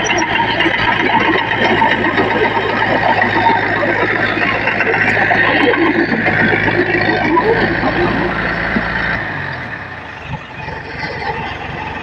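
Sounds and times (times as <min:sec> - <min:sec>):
diesel machinery engine humming: 0:00.0 - 0:12.0.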